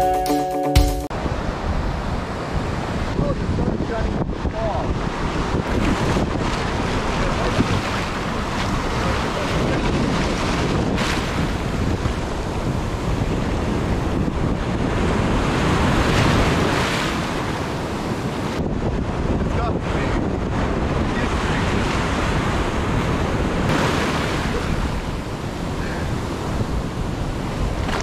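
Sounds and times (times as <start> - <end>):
ocean surf breaking: 1.1 - 28.0
wind rumbling on microphone: 1.1 - 28.0.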